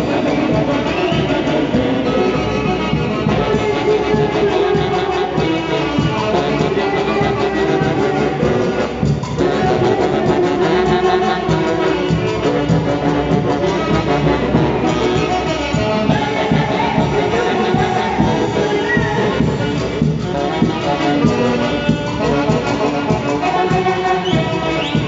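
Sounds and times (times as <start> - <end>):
wind band playing a melody: 0.0 - 25.0.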